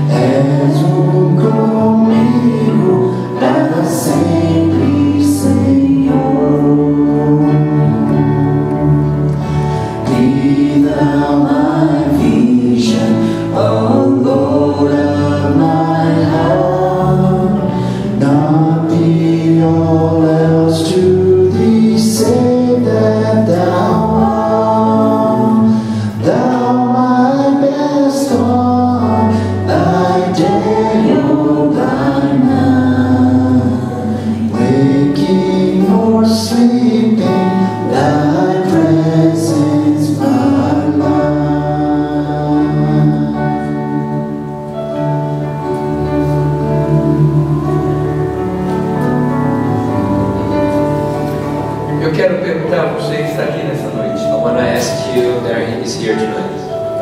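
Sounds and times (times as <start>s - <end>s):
electric bass: 0.0s - 53.7s
acoustic guitar: 0.0s - 57.0s
keyboard chords: 0.0s - 57.0s
people singing: 0.0s - 57.0s.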